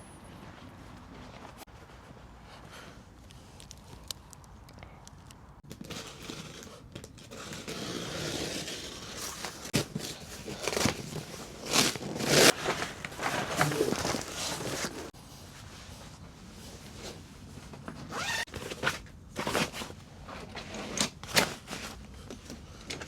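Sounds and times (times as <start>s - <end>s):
rustling and crinkling: 0.2s - 23.0s.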